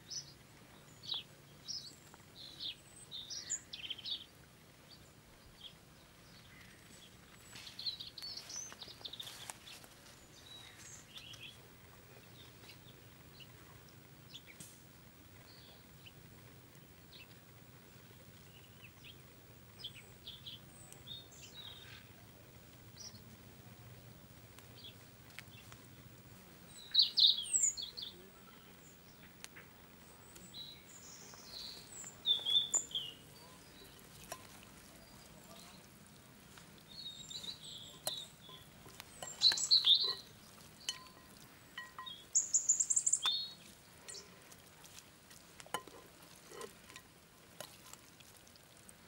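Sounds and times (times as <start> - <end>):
birds chirping: 0.0 - 44.5
faint outdoor background noise: 0.0 - 49.0.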